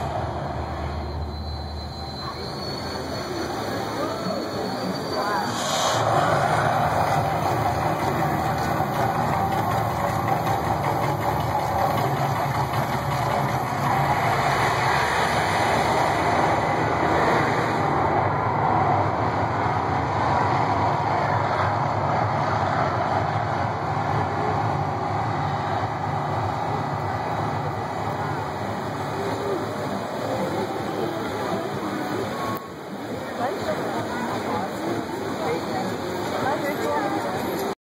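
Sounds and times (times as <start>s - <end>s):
roaring gas flames: 0.0s - 30.8s.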